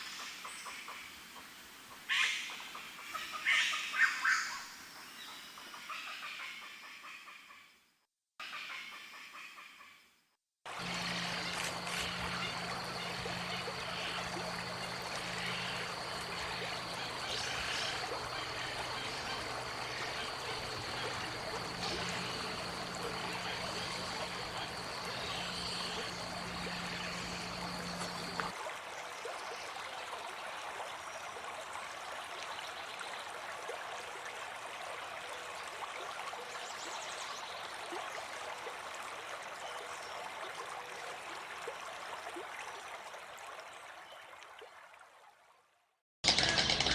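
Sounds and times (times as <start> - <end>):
stream water running: 0.0 - 6.7, 10.7 - 46.9.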